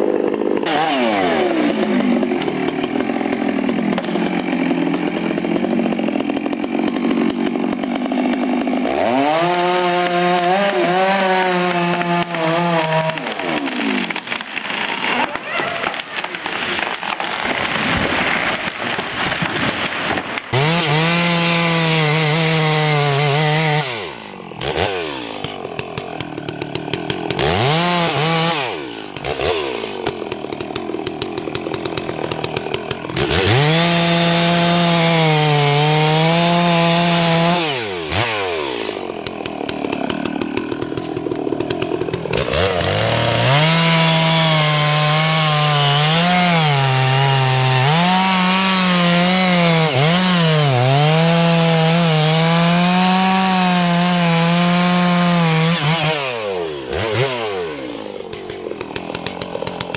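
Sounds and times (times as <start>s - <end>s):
dull sawing noise: 0.0s - 18.3s, 20.5s - 59.9s
chainsaw cutting wood: 0.0s - 59.9s.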